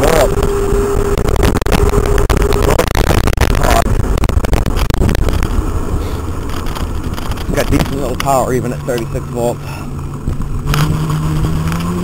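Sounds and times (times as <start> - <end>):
wind buffeting the microphone: 0.0 - 9.3, 9.9 - 11.7
road rumble: 0.0 - 12.0
steady whine: 0.0 - 12.0.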